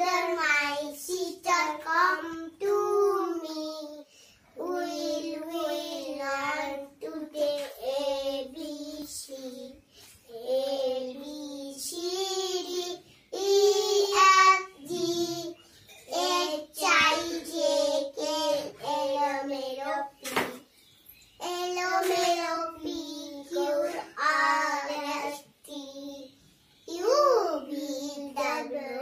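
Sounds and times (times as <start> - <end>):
child singing: 0.0 - 20.7, 21.4 - 29.0.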